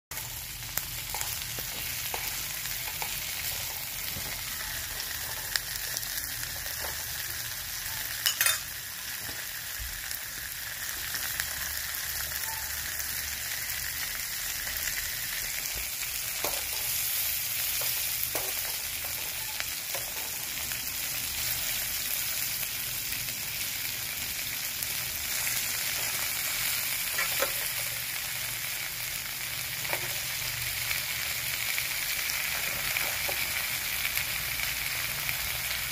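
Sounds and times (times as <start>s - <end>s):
shrimp sizzling in oil: 0.1s - 35.9s.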